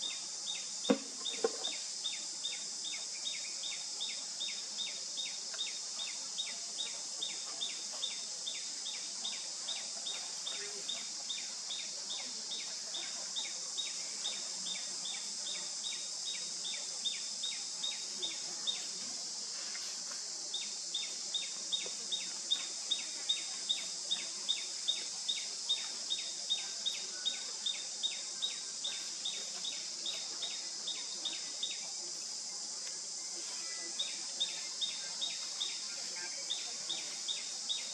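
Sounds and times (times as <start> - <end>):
insect chorus drone: 0.0 - 37.9.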